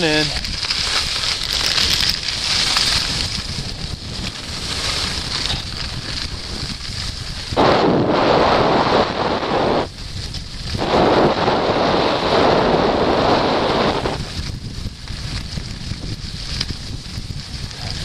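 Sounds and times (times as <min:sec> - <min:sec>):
skis hissing over snow: 0:00.0 - 0:14.4
wind on microphone: 0:00.0 - 0:18.0.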